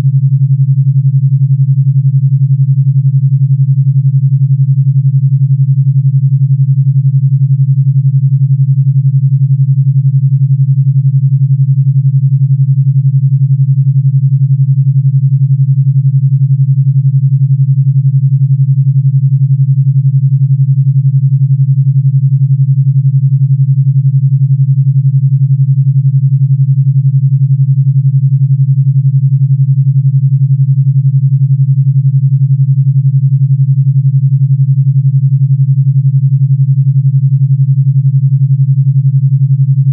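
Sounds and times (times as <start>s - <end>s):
pulsing low sine tone: 0.0s - 39.9s.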